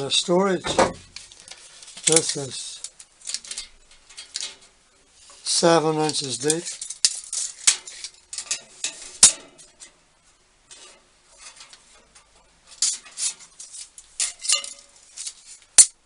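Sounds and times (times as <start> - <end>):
metal clinking and scraping: 0.7 - 10.0, 10.7 - 16.0.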